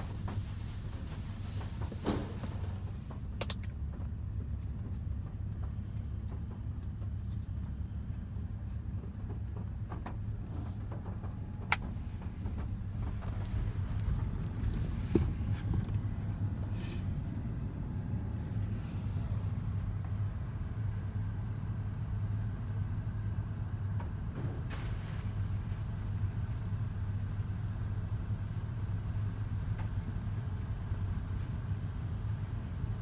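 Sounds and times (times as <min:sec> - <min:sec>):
car wash low hum: 0:00.0 - 0:33.0.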